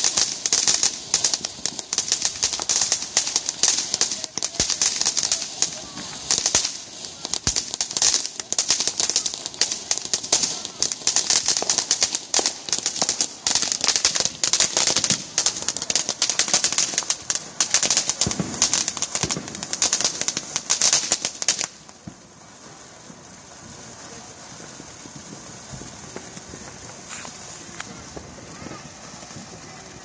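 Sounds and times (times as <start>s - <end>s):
firework fountain crackling: 0.0s - 30.0s
firework fountain hiss: 0.0s - 30.0s.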